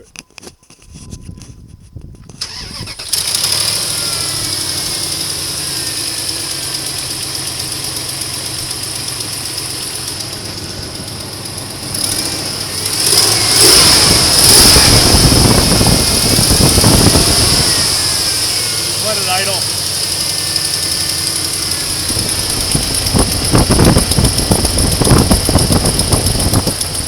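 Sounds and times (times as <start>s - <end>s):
starter motor cranking: 2.3s - 27.0s
engine idling: 2.4s - 27.0s.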